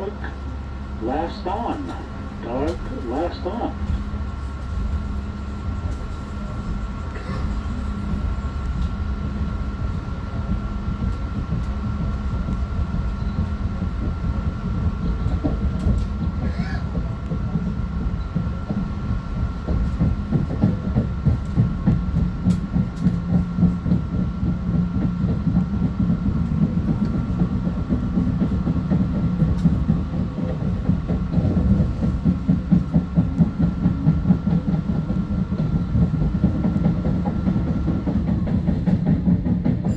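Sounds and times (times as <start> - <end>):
constant hum: 0.0 - 39.9
train rumble: 0.0 - 39.9
train wheels clattering: 0.1 - 39.9.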